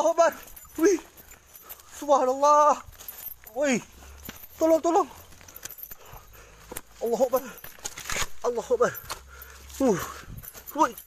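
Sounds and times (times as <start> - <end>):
rustling through undergrowth: 0.0 - 11.0.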